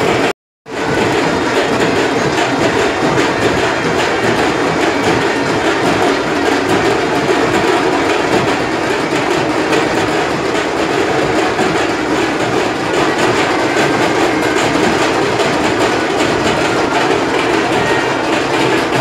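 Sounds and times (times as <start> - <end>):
crowd din: 0.0 - 19.0
dhol drums beating: 0.0 - 19.0.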